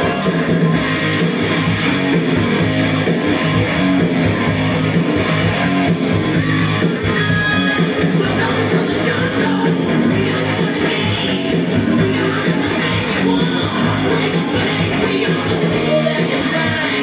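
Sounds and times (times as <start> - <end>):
loud guitar music: 0.0 - 17.0.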